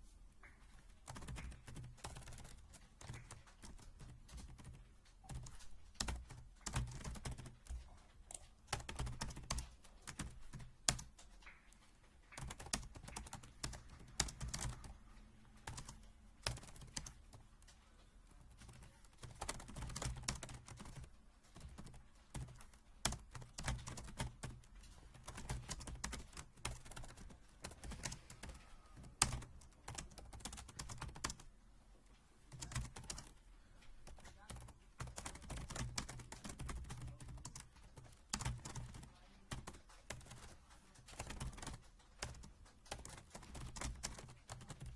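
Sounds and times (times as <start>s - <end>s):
keyboard typing: 0.4s - 44.9s.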